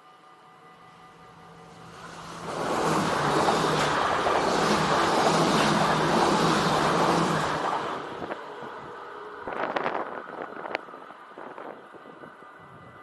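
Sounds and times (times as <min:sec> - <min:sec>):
passenger train passing: 0:00.0 - 0:13.0.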